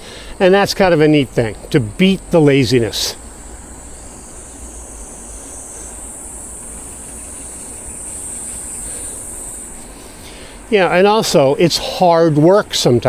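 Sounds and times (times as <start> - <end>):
high insect buzz: 0.0 - 13.0.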